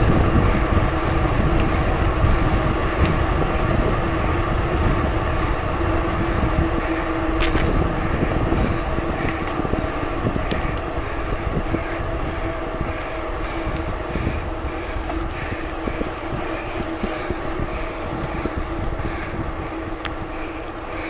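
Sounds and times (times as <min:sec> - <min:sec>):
bicycle tyre noise: 0:00.0 - 0:21.0
constant hum: 0:00.0 - 0:21.0
wind rumble on microphone: 0:00.0 - 0:21.0.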